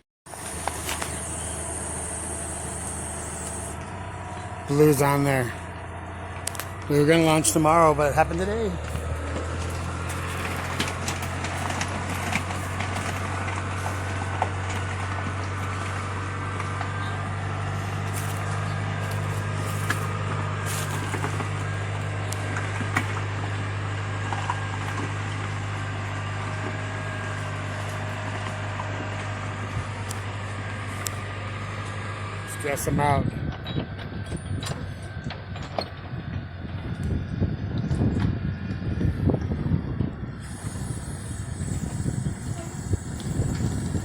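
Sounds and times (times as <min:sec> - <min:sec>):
large engine running: 0:00.3 - 0:44.0.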